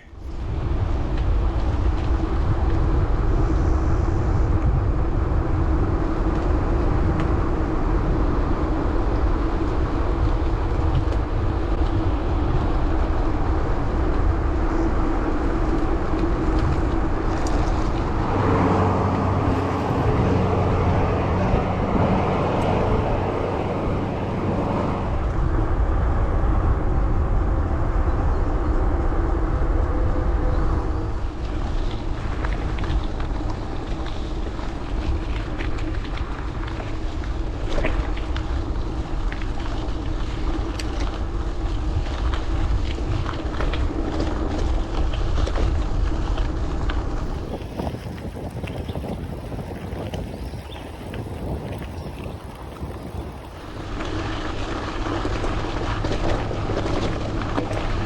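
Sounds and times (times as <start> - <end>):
bike tyres rolling on gravel: 0.0 - 26.1, 28.7 - 58.0.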